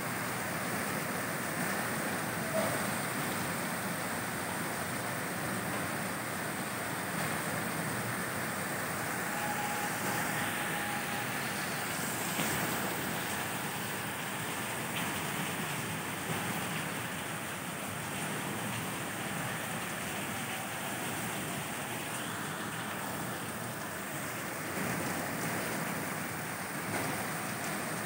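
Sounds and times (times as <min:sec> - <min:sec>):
rain falling on rooftops: 0:00.0 - 0:28.0.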